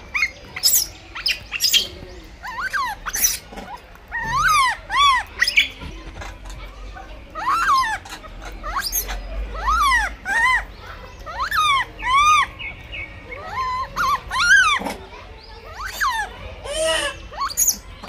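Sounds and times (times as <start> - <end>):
monkey calling: 0.0 - 18.0.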